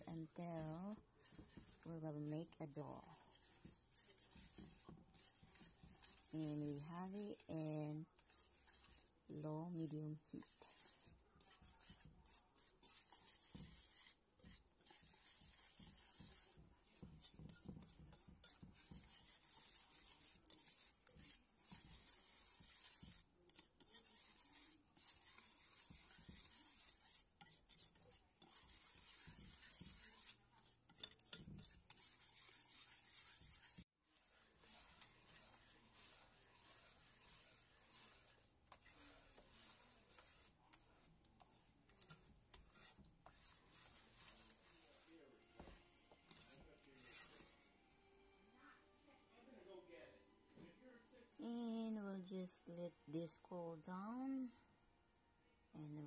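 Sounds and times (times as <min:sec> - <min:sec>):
utensil stirring dough in pan: 0:00.0 - 0:48.1, 0:51.4 - 0:54.6.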